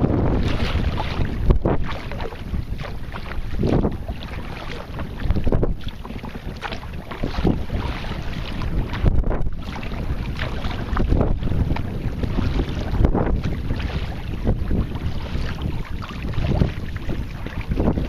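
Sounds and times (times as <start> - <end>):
water lapping and splashing: 0.0 - 18.0
wind buffeting microphone: 0.0 - 18.0.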